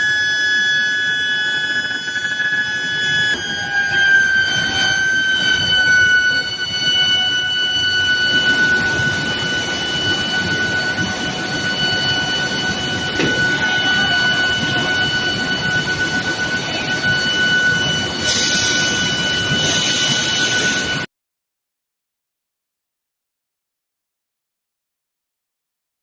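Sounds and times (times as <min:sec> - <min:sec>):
mechanical rumble: 0:00.0 - 0:21.0
induction furnace electrical whine: 0:00.0 - 0:21.1.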